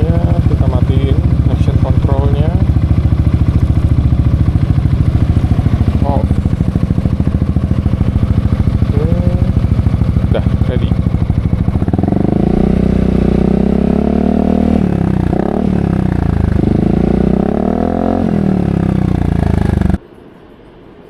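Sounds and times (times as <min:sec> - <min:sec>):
scooter engine idling and revving: 0:00.0 - 0:20.0.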